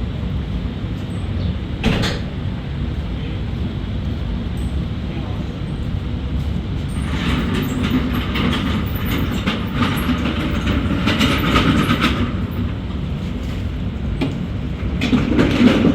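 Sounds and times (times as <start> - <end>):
machinery low rumble: 0.0 - 15.9.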